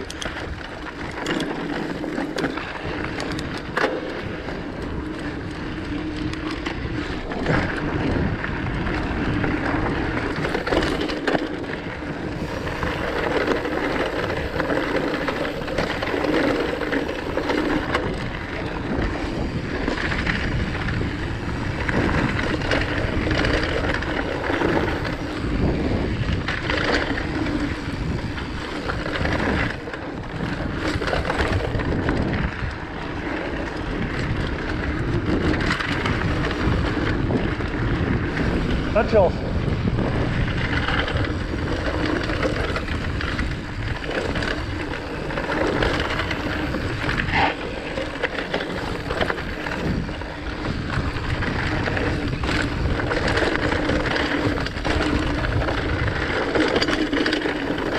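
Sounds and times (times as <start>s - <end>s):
bike rattling over bumps: 0.0s - 57.9s
bike tyres rolling over stones: 0.0s - 57.9s
wind noise on microphone: 0.0s - 57.9s.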